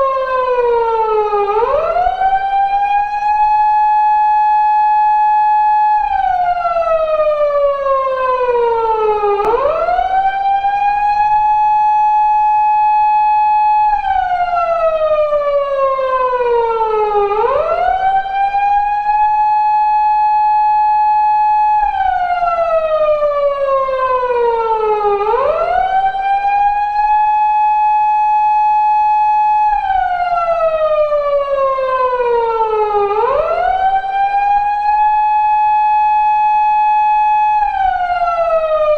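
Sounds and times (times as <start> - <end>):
police car siren wailing: 0.0 - 38.9.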